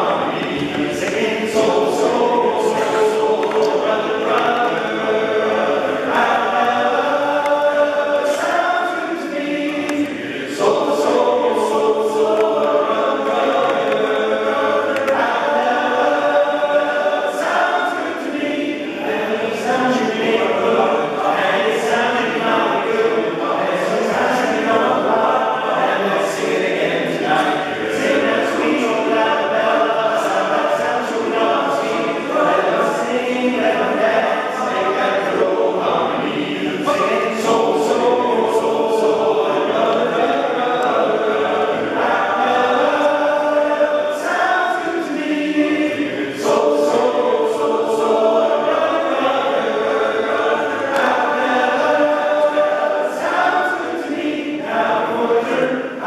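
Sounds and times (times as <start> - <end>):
men's choir singing a cappella: 0.0 - 56.0.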